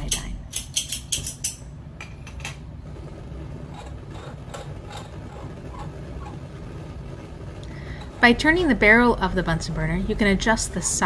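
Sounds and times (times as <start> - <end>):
ventilation hood noise: 0.0 - 11.0
gas burner flame rushing: 1.9 - 11.0.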